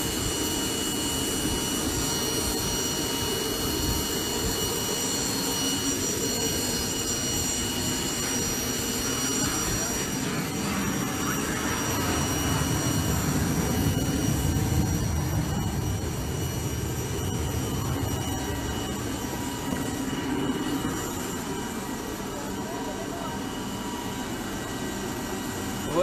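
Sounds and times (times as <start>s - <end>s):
helicopter turbine engines whining: 0.0s - 26.0s.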